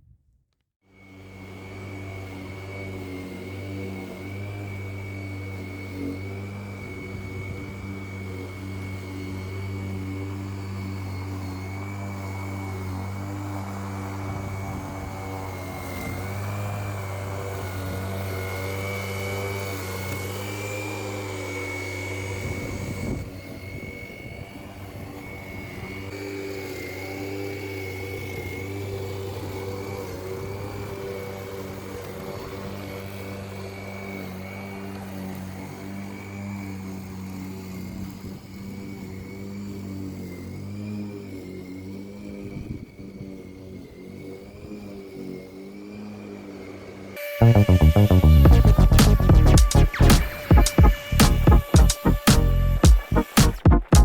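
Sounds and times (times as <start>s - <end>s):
electric lawn mower running: 0.9s - 54.0s.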